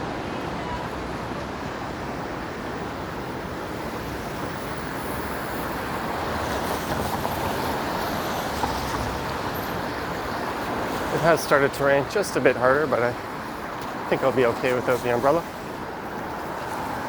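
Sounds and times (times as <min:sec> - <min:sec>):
cars passing: 0:00.0 - 0:17.0
tyres hissing on wet road: 0:01.8 - 0:17.0.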